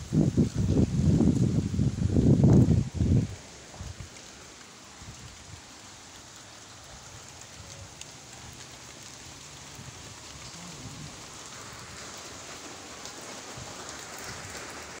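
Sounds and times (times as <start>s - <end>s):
rain falling on wet ground: 0.0s - 15.0s.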